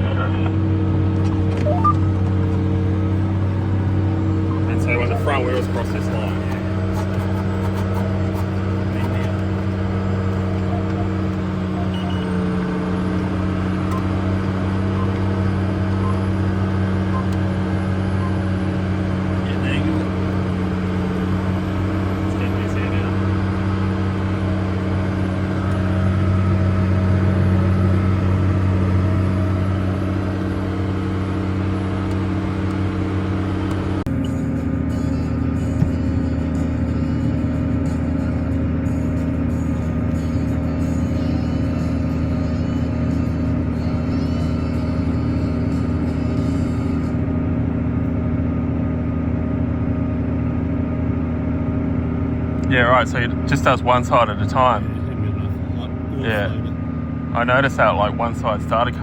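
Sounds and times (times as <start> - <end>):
tractor diesel engine droning: 0.0 - 59.0.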